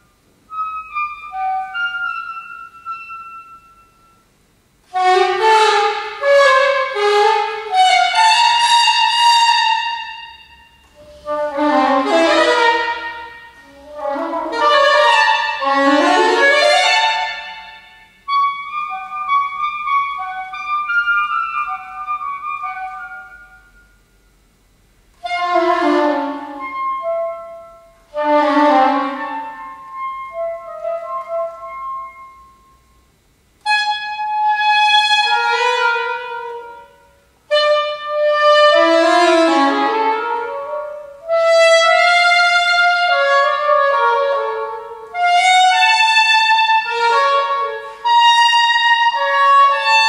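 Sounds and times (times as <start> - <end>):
solo saxophone: 0.0 - 4.2, 4.8 - 24.0, 25.1 - 33.0, 33.6 - 50.0.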